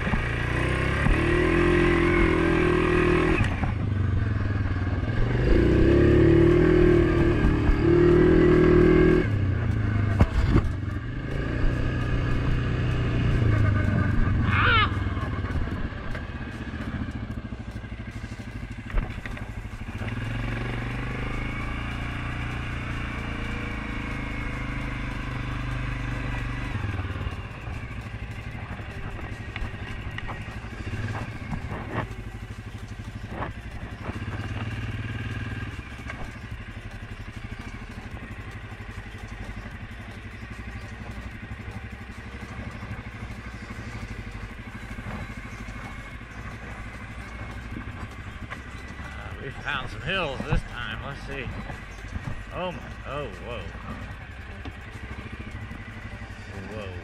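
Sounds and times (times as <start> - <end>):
atv engine revving: 0.0 - 57.0
clatter over rough ground: 0.0 - 57.0.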